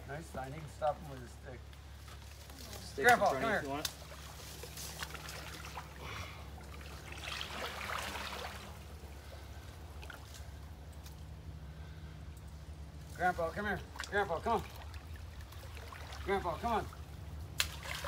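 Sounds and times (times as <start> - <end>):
steady low hum: 0.0 - 18.0
water sloshing and trickling: 0.3 - 18.0.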